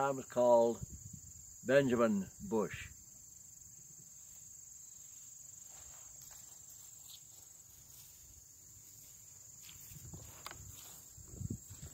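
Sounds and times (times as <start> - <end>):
crickets chirring: 0.0 - 11.9.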